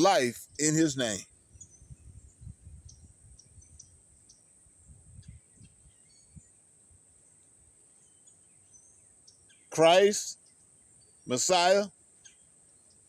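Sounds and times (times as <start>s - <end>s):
faint bird chirps: 0.5s - 13.0s.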